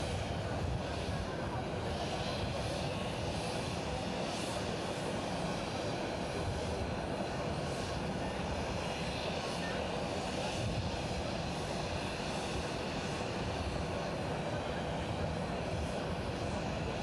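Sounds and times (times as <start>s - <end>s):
airliner jet engines: 0.0s - 17.0s.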